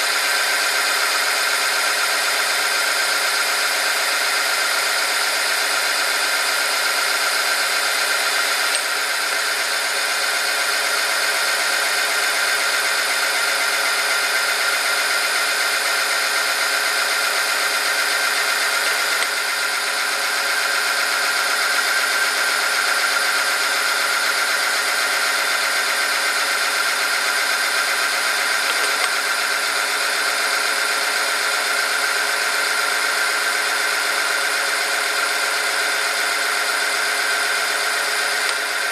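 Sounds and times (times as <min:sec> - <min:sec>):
machine whine with high tone: 0:00.0 - 0:38.9.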